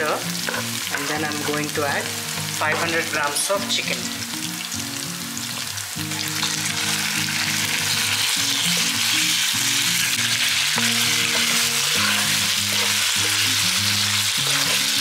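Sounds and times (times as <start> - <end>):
chicken sizzling in hot oil: 0.0 - 15.0
soft background music: 0.0 - 15.0.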